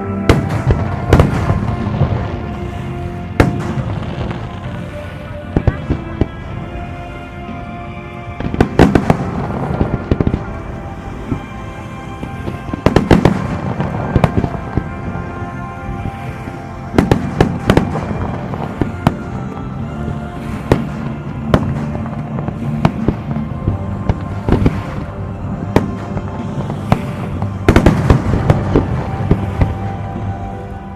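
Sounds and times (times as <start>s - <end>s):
fireworks bursting with sharp bangs: 0.0s - 30.9s
show music: 0.0s - 30.9s.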